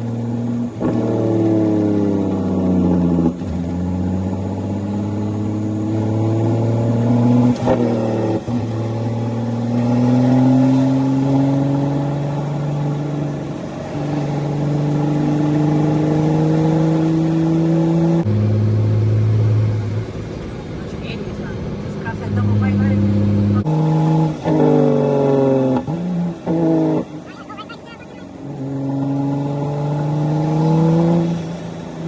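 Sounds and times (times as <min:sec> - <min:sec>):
diesel truck engine under load: 0:00.0 - 0:32.0.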